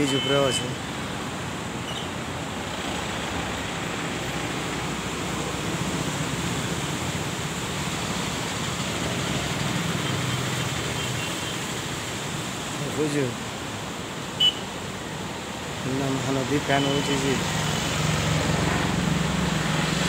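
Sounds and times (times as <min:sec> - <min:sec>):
floodwater rushing through channel: 0:00.0 - 0:20.0.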